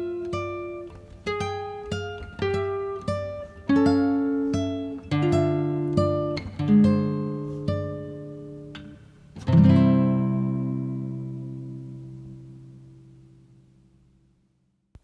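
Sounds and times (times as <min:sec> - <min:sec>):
plucked acoustic guitar melody: 0:00.0 - 0:13.7.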